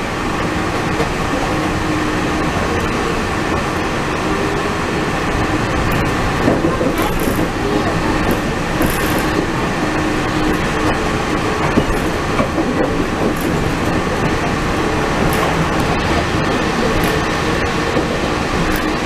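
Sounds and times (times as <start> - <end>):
monorail train rumbling: 0.0 - 19.0.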